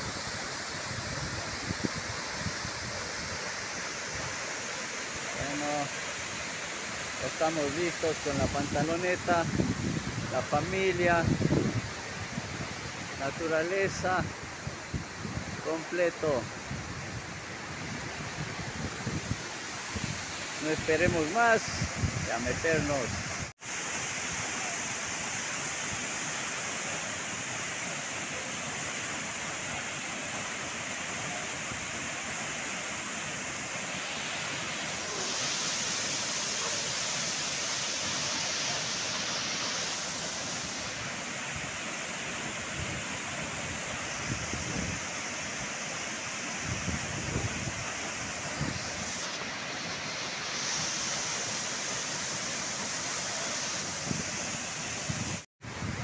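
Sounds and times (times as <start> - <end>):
waterfall crashing over rock: 0.0 - 56.0.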